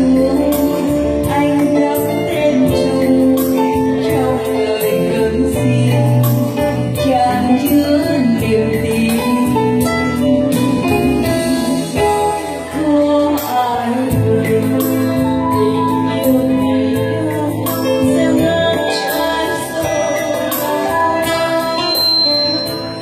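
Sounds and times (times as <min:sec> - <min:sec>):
acoustic guitar: 0:00.0 - 0:23.0
keyboard: 0:00.0 - 0:23.0
women singing into microphones: 0:00.0 - 0:23.0.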